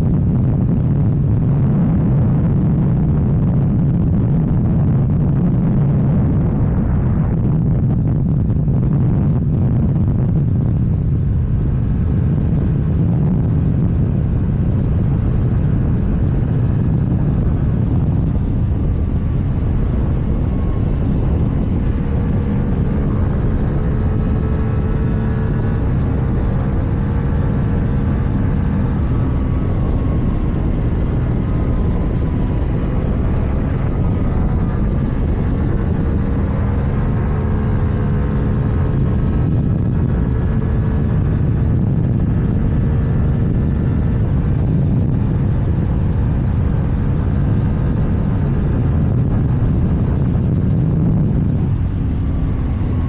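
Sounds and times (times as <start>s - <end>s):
motorcycle engine cruising: 0.0s - 53.0s
rush of riding wind: 0.0s - 53.0s.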